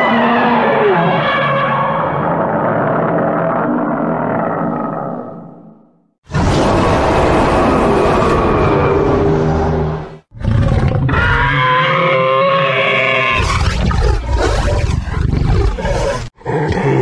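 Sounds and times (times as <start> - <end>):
monster roars: 0.0 - 5.6, 6.3 - 17.0.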